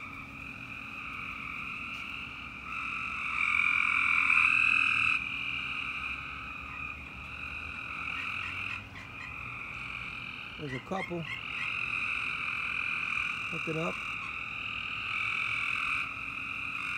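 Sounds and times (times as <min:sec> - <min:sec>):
chorus of frogs trilling: 0:00.0 - 0:16.9.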